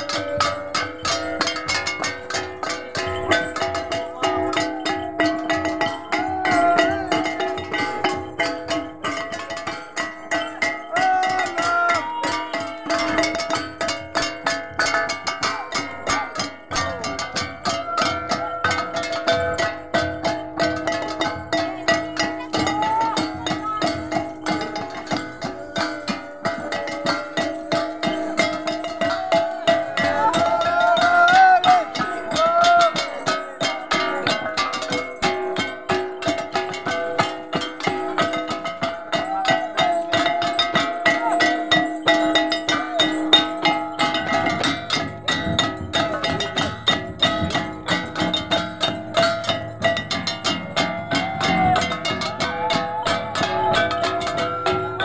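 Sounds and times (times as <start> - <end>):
voices singing: 0.0 - 14.4, 15.4 - 55.0
hand drums beating fast rhythm: 0.0 - 55.0
metal gongs ringing: 0.0 - 55.0.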